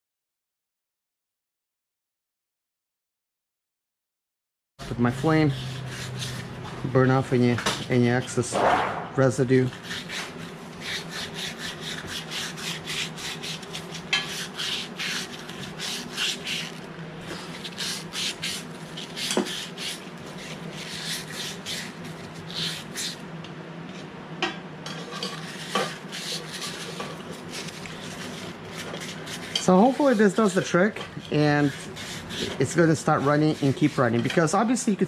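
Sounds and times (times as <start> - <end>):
steady low hum: 4.8 - 35.0
scraping and rubbing on metal: 4.9 - 23.2, 24.9 - 34.6.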